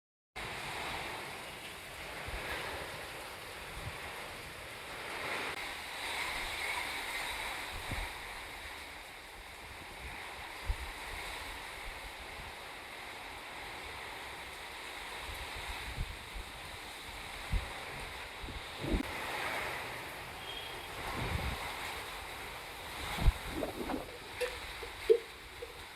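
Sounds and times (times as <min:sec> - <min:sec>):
heavy rainfall: 0:00.4 - 0:25.9.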